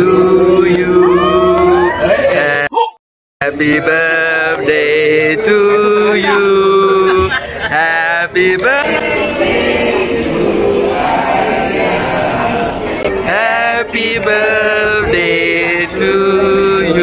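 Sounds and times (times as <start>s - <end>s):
group of people singing: 0.0s - 2.7s, 3.4s - 17.0s.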